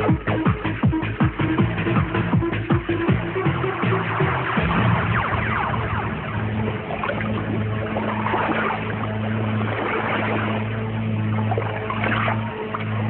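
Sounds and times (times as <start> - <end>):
low engine-like drone: 0.0 - 13.0
motorboat and water sounds: 0.0 - 13.0
watery wash: 0.0 - 13.0.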